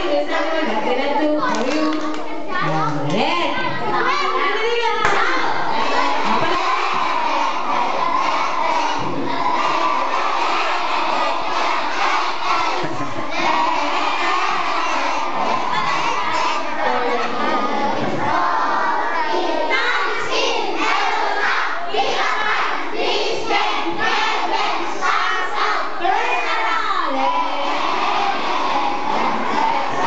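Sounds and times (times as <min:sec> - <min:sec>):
young children shouting and cheering: 0:01.3 - 0:30.0.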